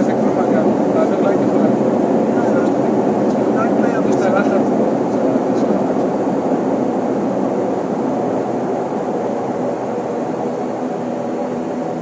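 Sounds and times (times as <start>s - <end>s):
airliner engine drone: 0.0s - 12.0s.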